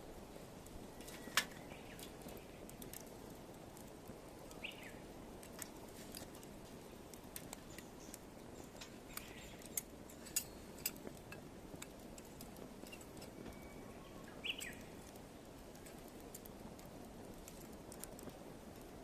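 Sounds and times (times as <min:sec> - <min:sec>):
firewood crackling and popping: 0:00.0 - 0:19.0
low steady fire rush: 0:00.0 - 0:19.0.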